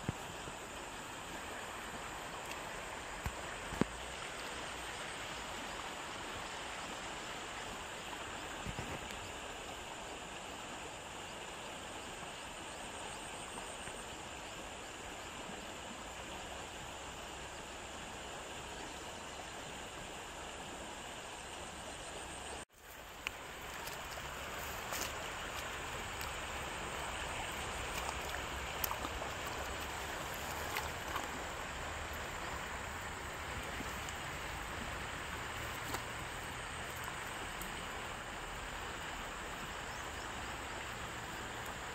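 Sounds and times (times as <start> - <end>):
outdoor background hiss: 0.0 - 41.9.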